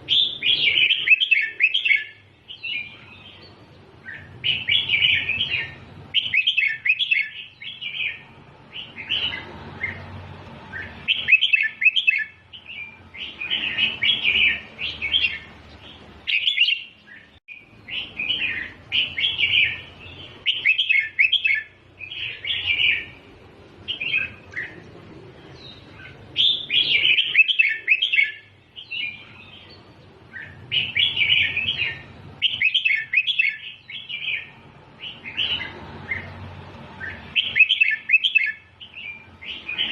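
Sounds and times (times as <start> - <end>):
bulbul singing chattering phrases: 0.0 - 39.9.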